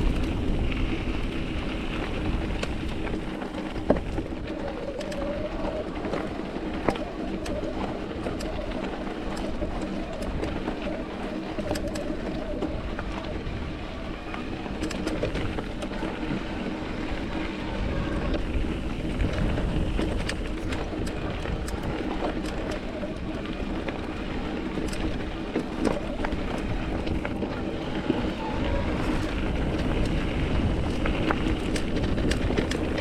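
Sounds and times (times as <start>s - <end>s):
bike rattling clicks and knocks: 0.0s - 33.0s
bike tyres rolling on dirt: 0.0s - 33.0s.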